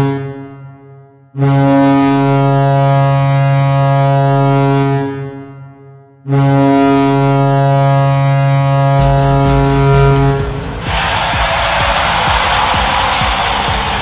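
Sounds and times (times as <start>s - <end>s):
hockey goal horn blasts: 0.0s - 12.2s.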